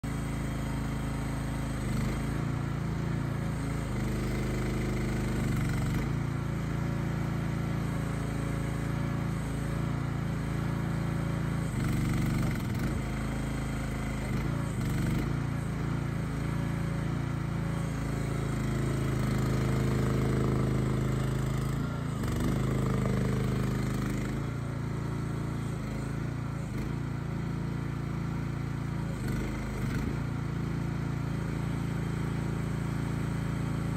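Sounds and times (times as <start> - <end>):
small gas engine running: 0.0 - 33.9.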